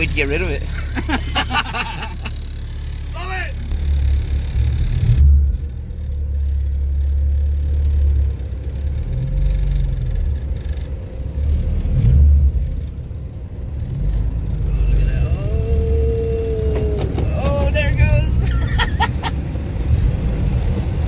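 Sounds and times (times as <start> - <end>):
muffled car wash rumble: 0.0 - 21.0.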